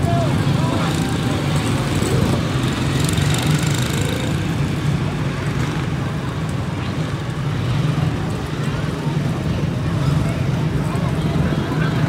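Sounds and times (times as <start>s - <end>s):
small race car engines buzzing: 0.0s - 12.0s.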